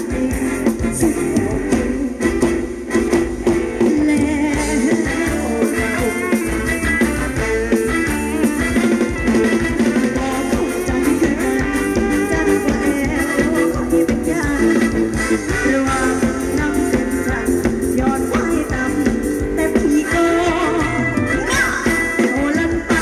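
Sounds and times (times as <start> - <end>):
live band playing dance music: 0.0 - 23.0.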